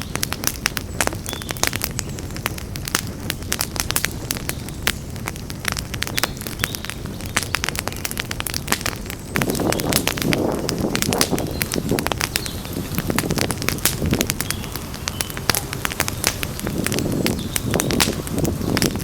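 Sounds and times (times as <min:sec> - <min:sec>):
campfire crackling and popping: 0:00.0 - 0:19.0
low rushing of fire: 0:00.0 - 0:19.0.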